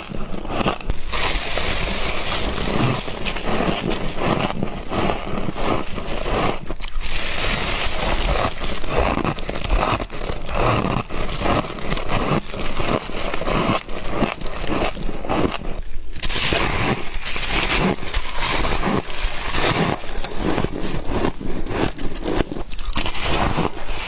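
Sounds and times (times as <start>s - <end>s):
frost being chewed: 0.0s - 24.0s.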